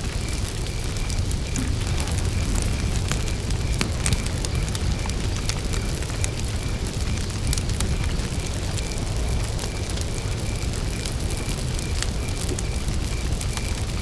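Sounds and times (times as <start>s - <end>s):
cricket chirping: 0.0s - 14.0s
low rumble of flames: 0.0s - 14.0s
wood crackling and popping: 0.0s - 14.0s.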